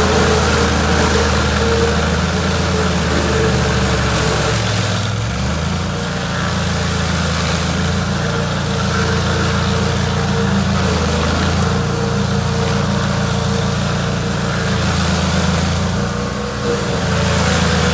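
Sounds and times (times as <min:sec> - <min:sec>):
chainsaw engine running: 0:00.0 - 0:17.9.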